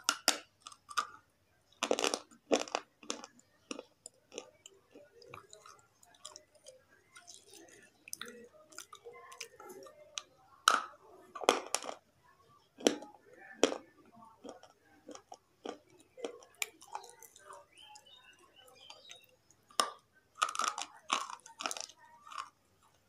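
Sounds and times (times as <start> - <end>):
gritty crunching chewing: 0.0 - 12.0, 12.8 - 23.0.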